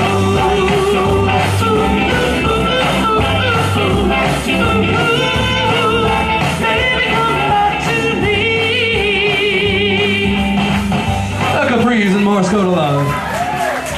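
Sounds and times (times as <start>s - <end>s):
live rock band with singing: 0.0s - 13.9s.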